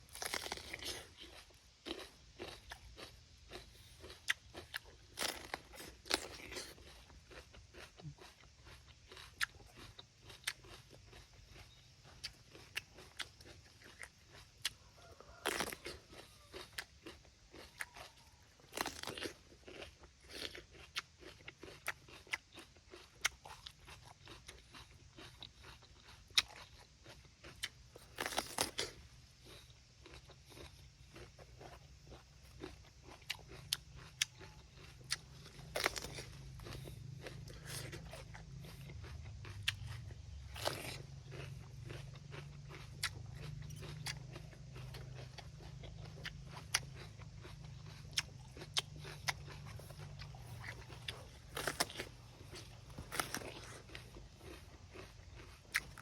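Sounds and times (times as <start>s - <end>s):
person chewing crunchy pepper: 0.0s - 56.0s.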